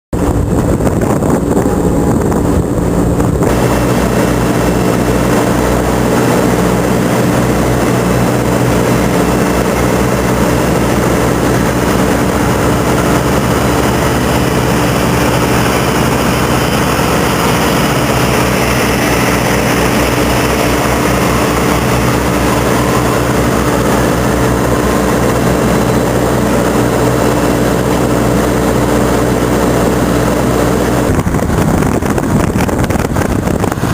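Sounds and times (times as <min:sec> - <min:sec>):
large vehicle engine droning: 0:00.2 - 0:33.9.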